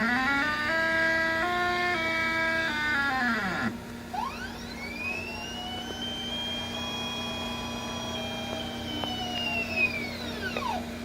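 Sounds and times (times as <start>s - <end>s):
low steady hum: 0.0s - 11.0s
motor whining: 0.0s - 11.0s.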